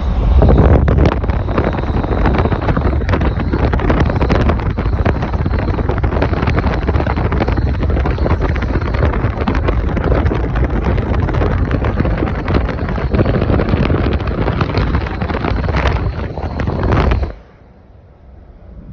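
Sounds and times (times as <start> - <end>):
wind on microphone: 0.0 - 17.4
vehicle driving noise: 0.0 - 18.9.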